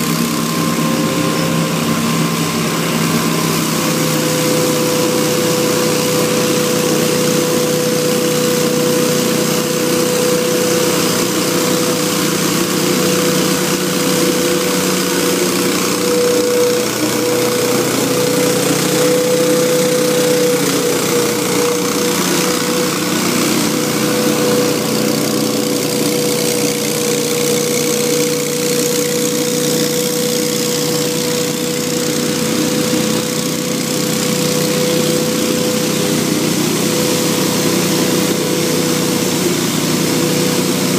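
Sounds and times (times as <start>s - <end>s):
constant whine: 0.0s - 40.9s
leaf blower engine drone: 0.0s - 40.9s.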